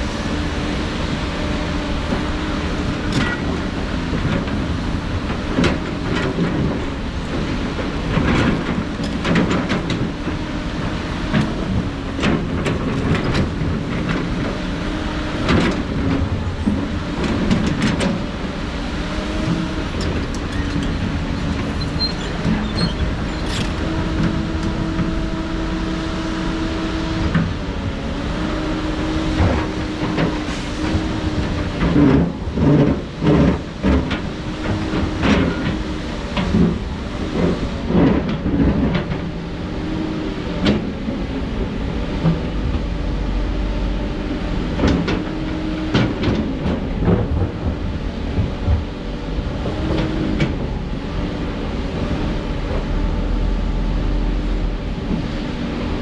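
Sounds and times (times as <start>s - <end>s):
diesel excavator running under load: 0.0s - 56.0s.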